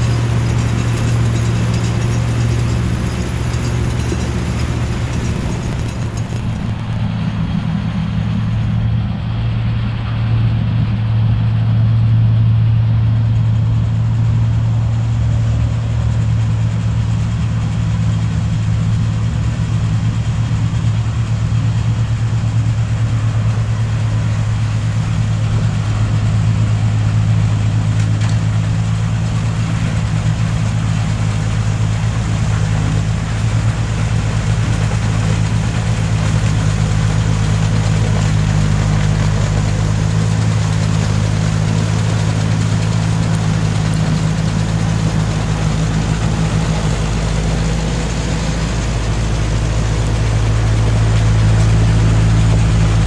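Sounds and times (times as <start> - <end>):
tractor engine humming: 0.0 - 53.0.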